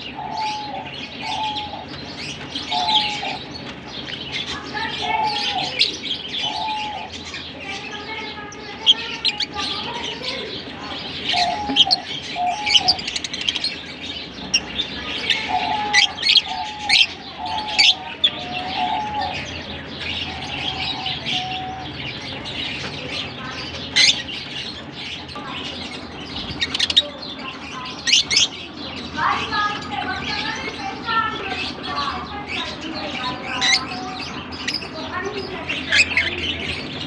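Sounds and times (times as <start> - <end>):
lovebirds chirping and twittering: 0.0 - 37.0.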